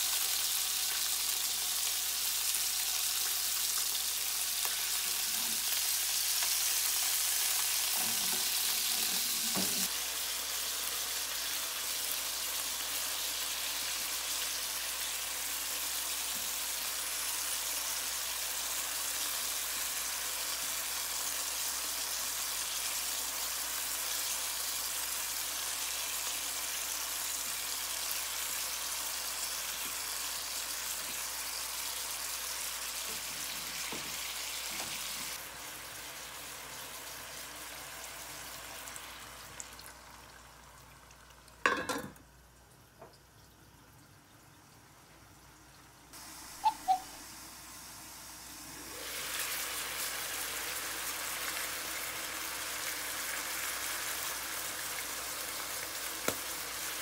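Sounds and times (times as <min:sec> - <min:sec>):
food sizzling in oil: 0:00.0 - 0:42.2, 0:46.1 - 0:57.0.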